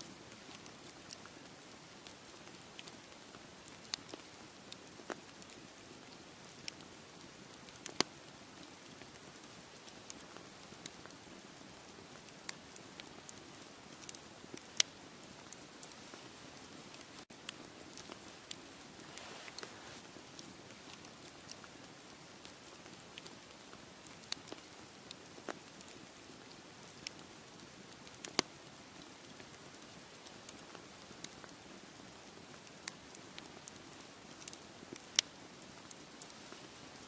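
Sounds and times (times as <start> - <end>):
campfire crackling: 0.0 - 37.0
soft hiss: 0.0 - 37.0.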